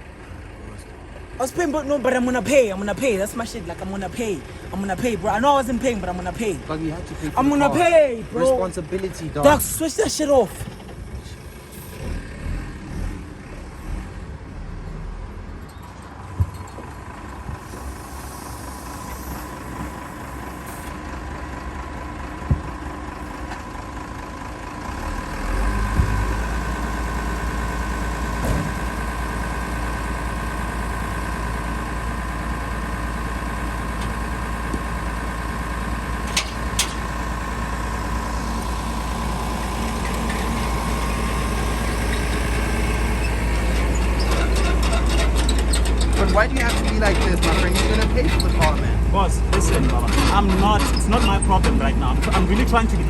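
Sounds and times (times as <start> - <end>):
engine whine: 0.0 - 53.0
vehicle engine idling: 0.0 - 53.0.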